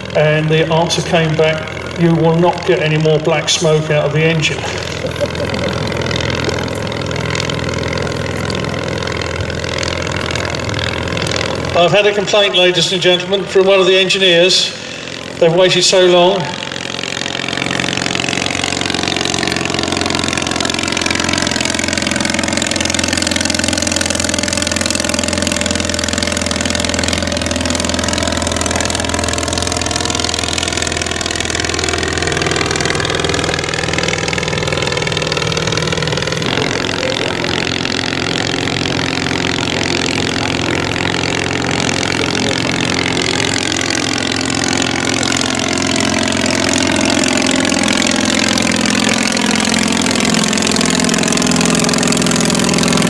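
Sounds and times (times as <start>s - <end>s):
aircraft engine flying overhead: 0.0s - 53.0s.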